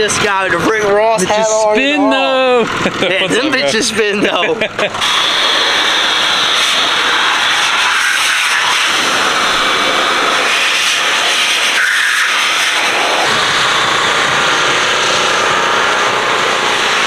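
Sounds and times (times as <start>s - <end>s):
handheld blower running: 1.0s - 17.0s.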